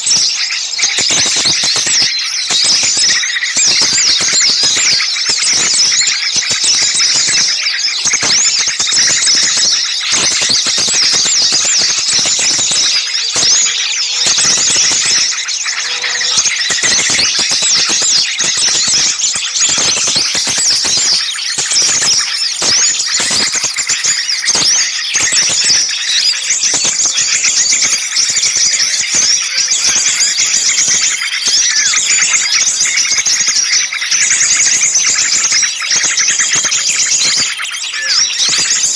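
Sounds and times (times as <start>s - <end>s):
chorus of songbirds chirping: 0.0s - 38.9s.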